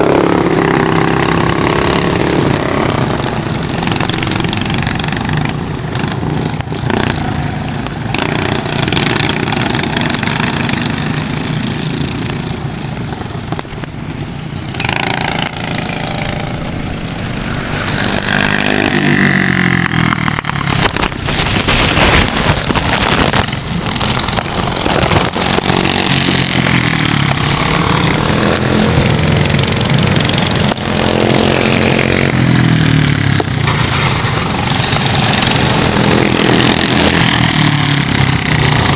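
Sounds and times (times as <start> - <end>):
go-kart engine running: 0.0 - 38.9
steady rushing noise: 0.0 - 38.9.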